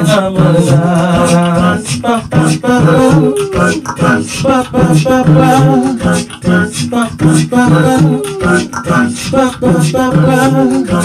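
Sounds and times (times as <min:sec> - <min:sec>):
beatboxing drum hits: 0:00.0 - 0:11.0
sung bass line: 0:00.0 - 0:11.0.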